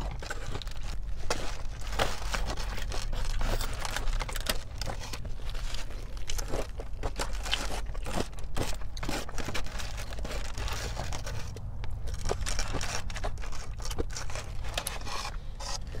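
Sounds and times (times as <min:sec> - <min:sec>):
crunching of crispy fried chicken: 0:00.0 - 0:16.0.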